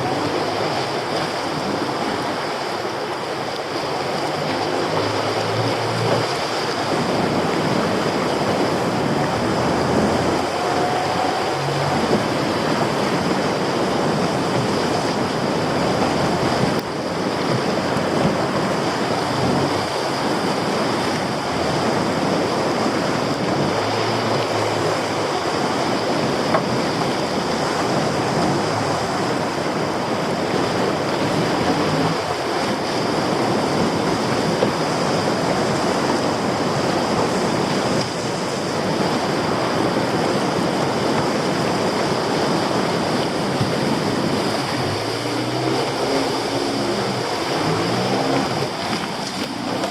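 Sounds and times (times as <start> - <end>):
low boat engine: 0.0 - 49.9
sea swell washing over rocks: 0.0 - 49.9
wind buffeting microphone: 0.0 - 49.9.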